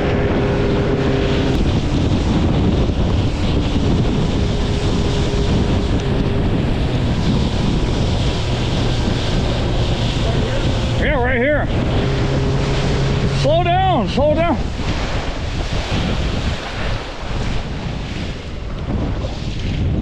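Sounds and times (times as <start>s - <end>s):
boat engine: 0.0s - 20.0s
water rushing along hull: 0.0s - 20.0s
wind noise on microphone: 0.0s - 20.0s.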